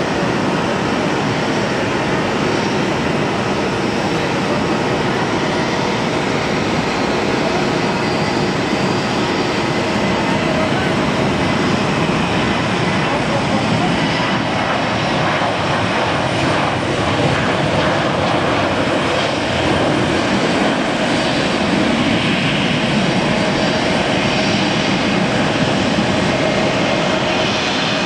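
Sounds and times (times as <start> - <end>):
jet airliner taking off: 0.0 - 28.0.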